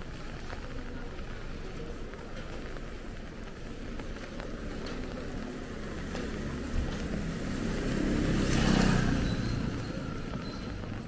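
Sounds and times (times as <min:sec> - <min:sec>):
steady rain: 0:00.0 - 0:11.0
vehicle passing on wet road: 0:00.1 - 0:11.0.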